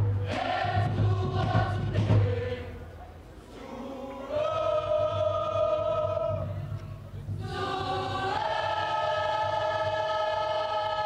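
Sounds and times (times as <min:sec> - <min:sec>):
choir holding sustained chords: 0:00.0 - 0:11.0.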